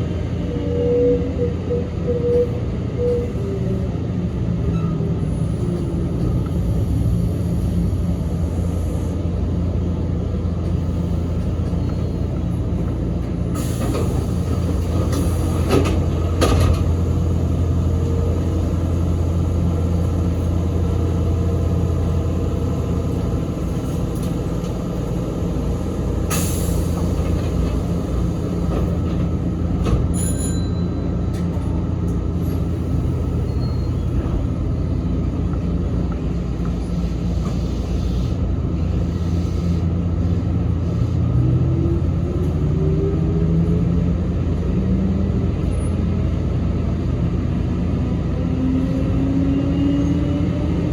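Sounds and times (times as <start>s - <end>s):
train motors and wheels rumbling: 0.0s - 50.9s.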